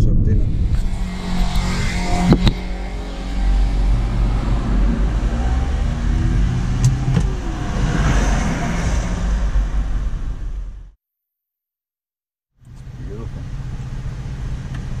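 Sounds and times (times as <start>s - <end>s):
car engine and road rumble: 0.0s - 11.0s, 12.6s - 15.0s.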